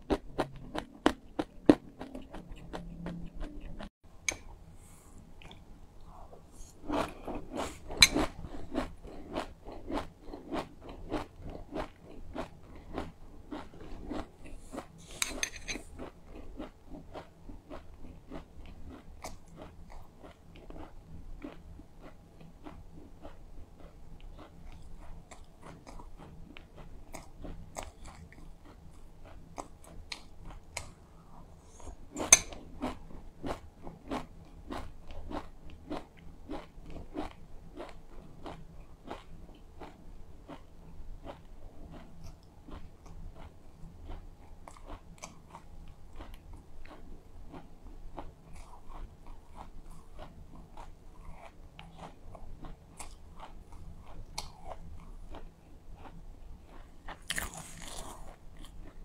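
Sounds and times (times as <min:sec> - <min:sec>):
chewing sesame seeds crunching: 0:00.0 - 0:03.9, 0:06.8 - 0:59.0.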